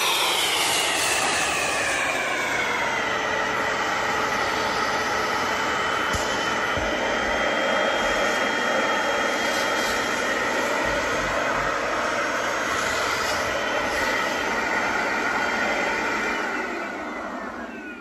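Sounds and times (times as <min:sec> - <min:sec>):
vacuum motor whining: 0:00.0 - 0:18.0.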